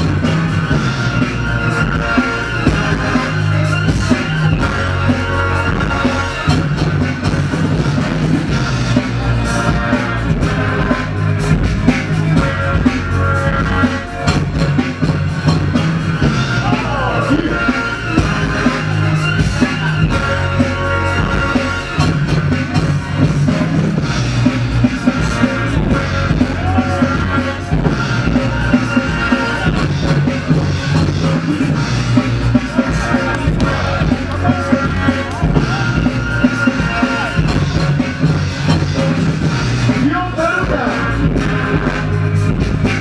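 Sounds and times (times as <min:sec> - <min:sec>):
rock music with drums and guitar: 0:00.0 - 0:43.0.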